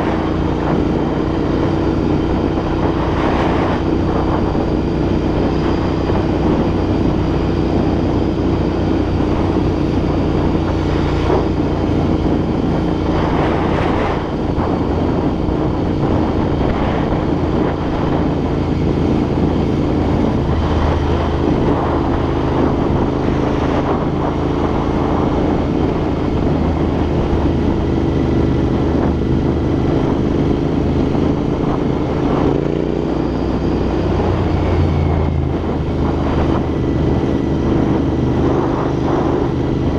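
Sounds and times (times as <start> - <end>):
motorcycle engine riding: 0.0 - 39.9
wind noise on microphone: 0.0 - 39.9.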